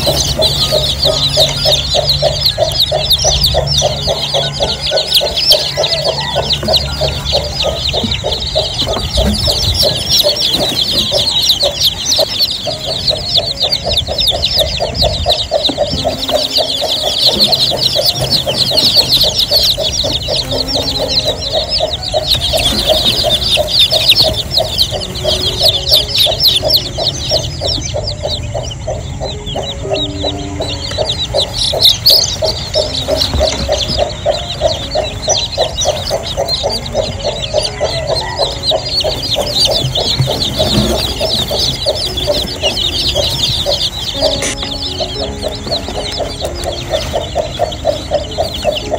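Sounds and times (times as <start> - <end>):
chicks peeping: 0.0 - 48.9
rapid regular clucking: 0.0 - 48.9.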